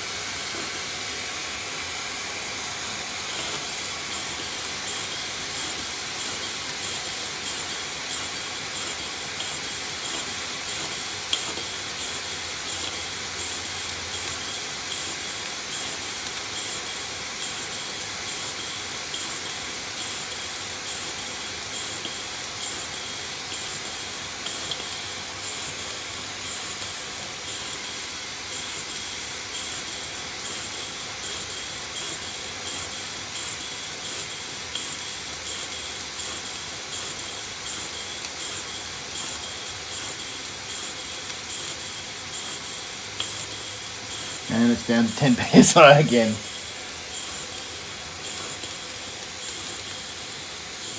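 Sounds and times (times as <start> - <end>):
steam hissing: 0.0 - 50.9.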